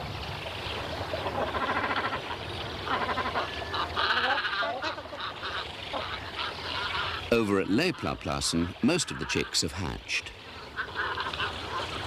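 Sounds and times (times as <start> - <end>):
waterbirds nasal calls: 0.7 - 12.0.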